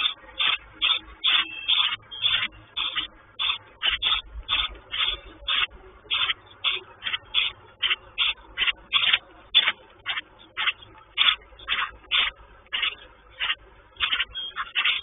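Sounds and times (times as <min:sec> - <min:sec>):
sparrow chirping: 0:00.0 - 0:15.0.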